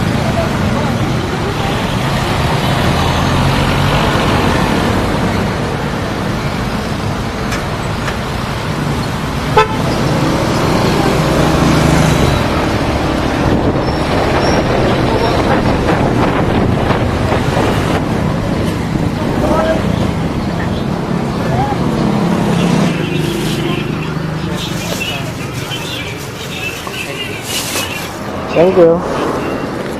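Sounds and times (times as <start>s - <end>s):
road traffic rumble: 0.0s - 29.9s.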